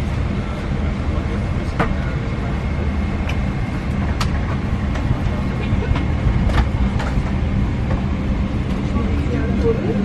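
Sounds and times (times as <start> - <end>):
aircraft cabin low rumble: 0.0 - 10.0.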